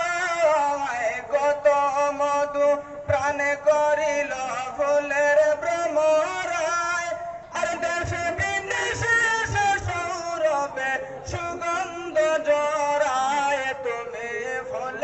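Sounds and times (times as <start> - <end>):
man singing solo: 0.0 - 15.0.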